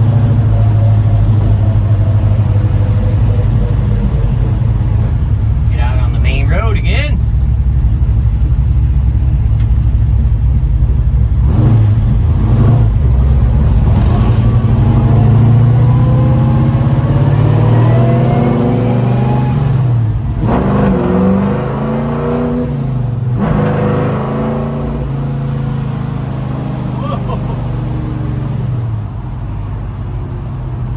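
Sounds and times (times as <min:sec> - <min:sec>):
car engine accelerating from inside: 0:00.0 - 0:07.4, 0:08.1 - 0:29.3.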